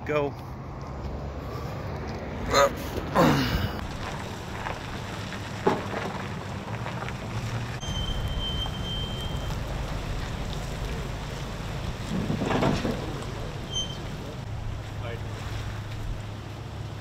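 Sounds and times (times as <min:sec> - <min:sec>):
tyres crunching over gravel: 0:02.8 - 0:16.6.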